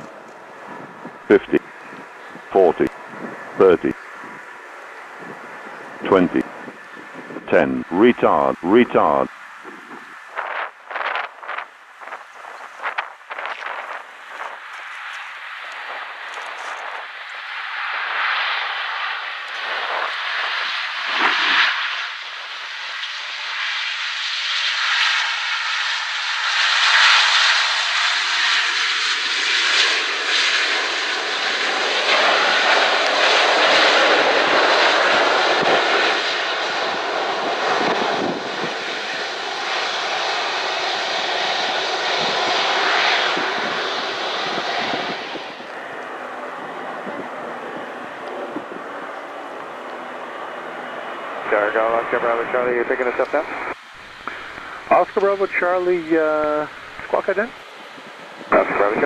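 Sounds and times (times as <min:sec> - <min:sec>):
jet engines running loud: 0:00.0 - 0:59.0.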